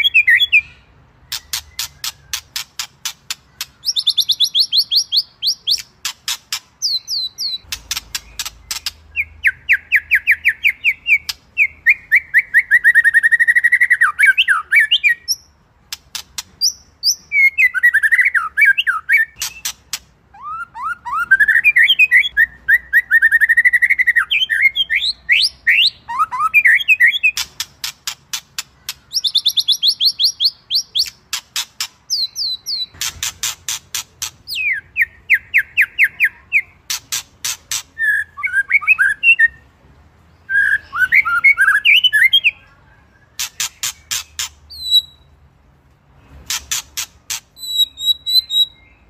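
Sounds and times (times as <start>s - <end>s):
songbird singing trills and whistles: 0.0s - 39.6s, 40.3s - 45.4s, 46.5s - 49.0s.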